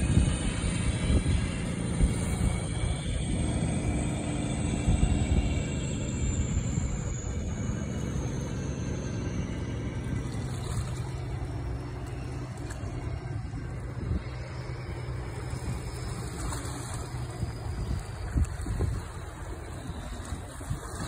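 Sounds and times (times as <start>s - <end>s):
motorboat engine droning: 0.0s - 21.0s.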